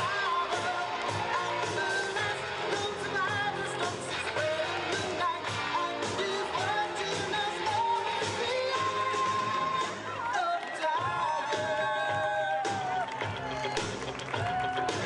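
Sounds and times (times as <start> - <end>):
pop-rock song with singing: 0.0 - 15.0.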